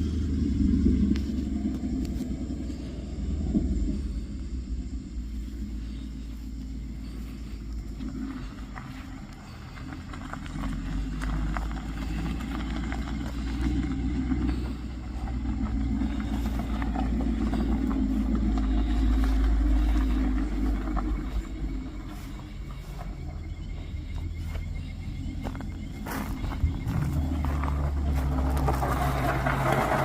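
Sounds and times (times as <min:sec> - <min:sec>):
car exhaust rumbling: 0:00.0 - 0:30.0
exhaust crackles and pops: 0:00.0 - 0:30.0.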